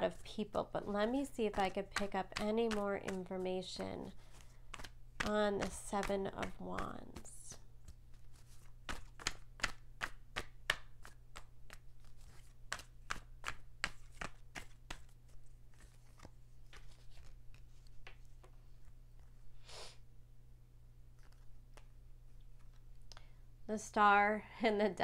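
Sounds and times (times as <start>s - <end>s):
cards being shuffled: 0.8s - 19.4s, 21.1s - 23.1s.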